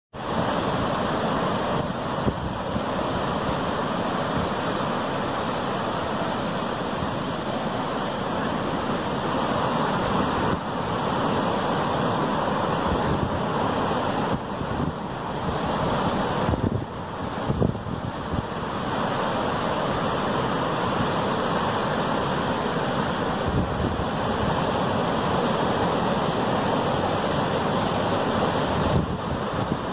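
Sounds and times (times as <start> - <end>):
surf waves breaking: 0.1 - 29.9.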